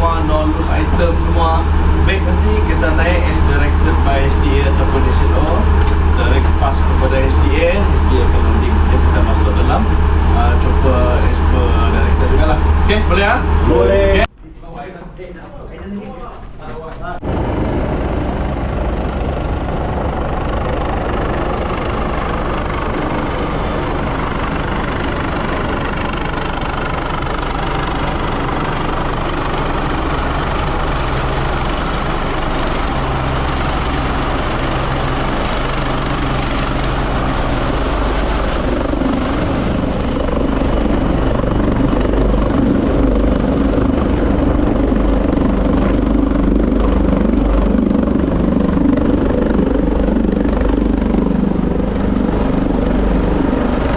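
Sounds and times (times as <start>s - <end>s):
helicopter rotor and engine: 0.0s - 14.3s, 17.2s - 53.9s.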